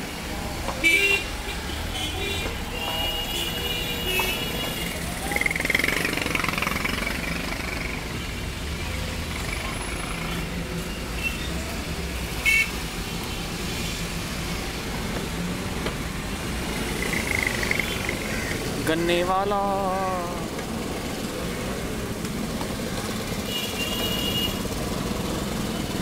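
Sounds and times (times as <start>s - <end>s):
rumble of car and motorcycle engines: 0.0s - 26.0s.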